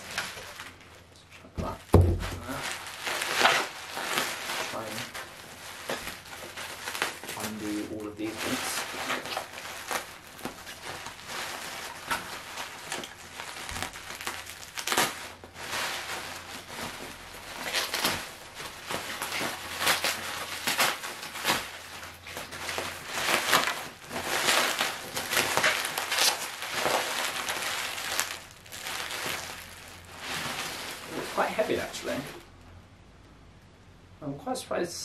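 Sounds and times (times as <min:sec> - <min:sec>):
bubble wrap crinkling: 0:00.0 - 0:32.7.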